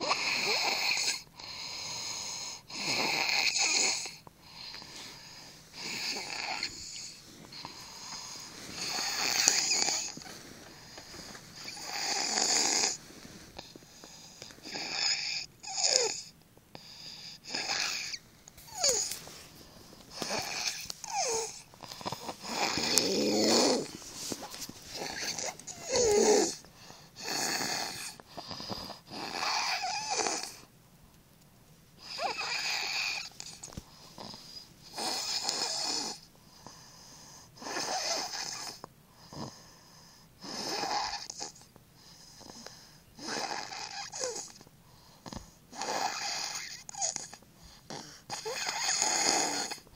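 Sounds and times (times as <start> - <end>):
child snoring: 0.0 - 30.7, 32.0 - 49.9.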